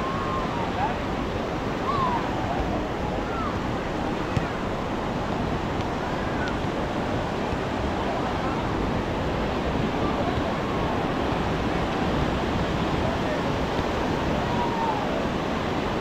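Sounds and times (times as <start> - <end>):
sea surf on sandy beach: 0.0 - 16.0.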